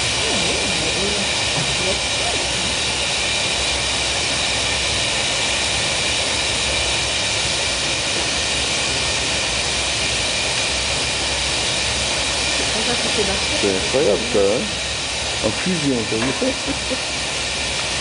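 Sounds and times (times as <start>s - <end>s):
furnace rushing roar: 0.0s - 18.0s.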